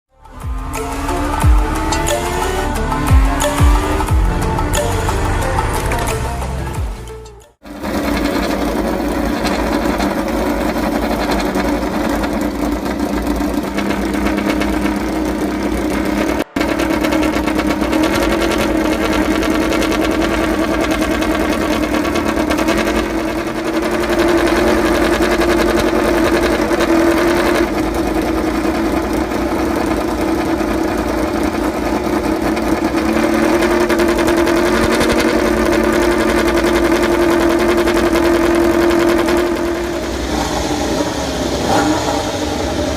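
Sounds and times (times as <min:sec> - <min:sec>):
racing motorcycle engine buzzing: 0:00.1 - 0:42.9.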